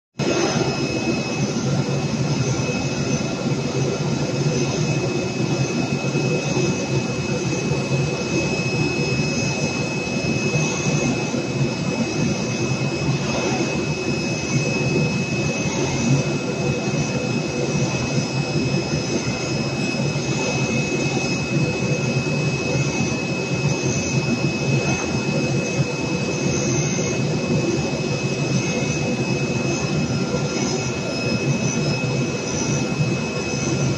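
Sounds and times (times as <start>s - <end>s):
thin high machine whine: 0.2s - 33.9s.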